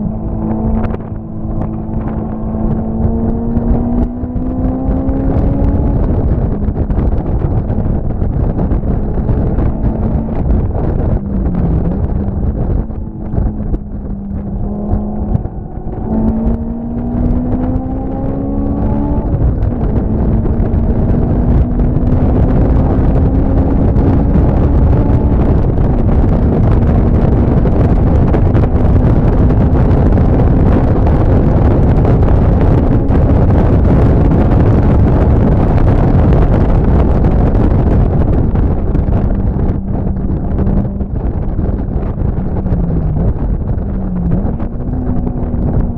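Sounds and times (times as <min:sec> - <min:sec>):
engine drone: 0:00.0 - 0:45.9
wind buffeting microphone: 0:00.0 - 0:45.9.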